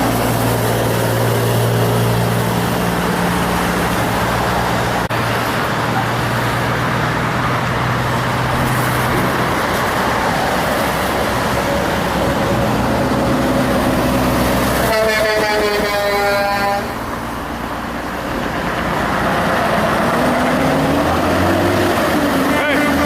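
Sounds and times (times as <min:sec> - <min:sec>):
heavy road traffic: 0:00.0 - 0:23.0
truck diesel engine droning: 0:00.0 - 0:23.0.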